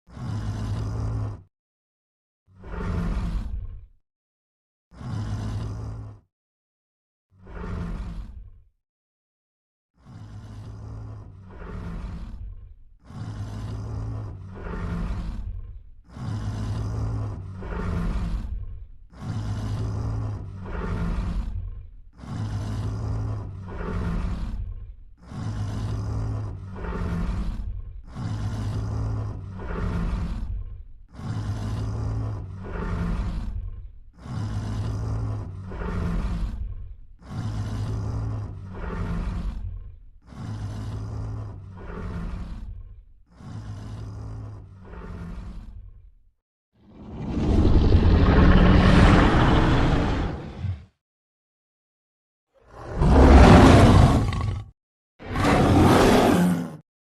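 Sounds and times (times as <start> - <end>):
deep monster roar: 0.1 - 1.5, 2.5 - 4.0, 4.9 - 6.3, 7.3 - 8.7, 10.0 - 51.0, 52.6 - 56.8.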